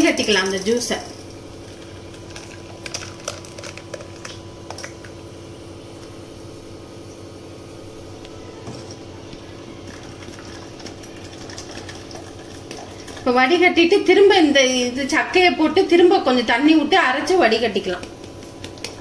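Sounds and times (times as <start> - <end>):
steady low background hum: 0.0 - 19.0.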